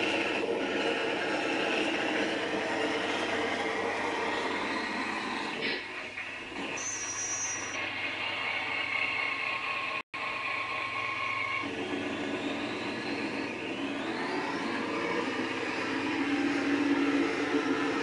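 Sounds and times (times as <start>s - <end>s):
toy truck motor whine: 0.0s - 18.0s.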